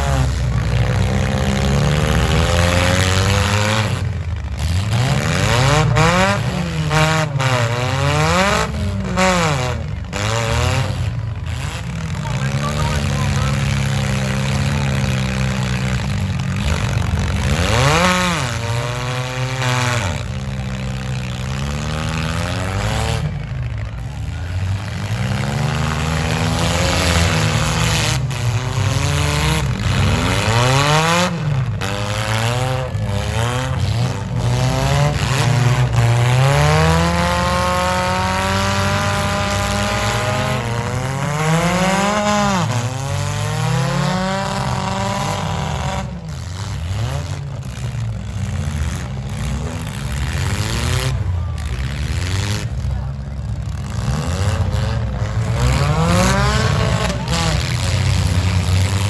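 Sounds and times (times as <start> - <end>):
car engines revving hard: 0.0 - 59.0
engines droning: 0.0 - 59.0.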